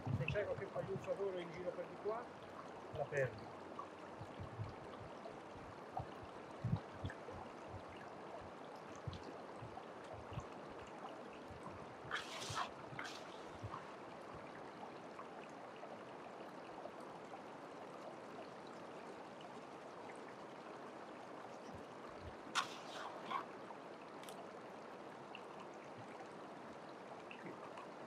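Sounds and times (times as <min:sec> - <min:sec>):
stream water over rocks: 0:00.0 - 0:28.0.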